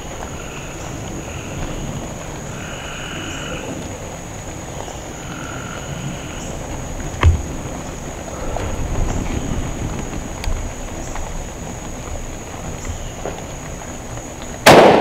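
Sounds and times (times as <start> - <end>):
low rumble: 0.0 - 14.7
frogs calling: 0.0 - 14.9.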